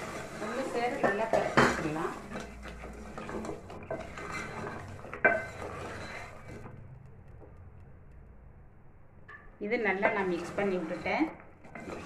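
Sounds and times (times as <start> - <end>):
wooden spoon stirring in metal pot: 0.0 - 8.4, 9.6 - 12.0.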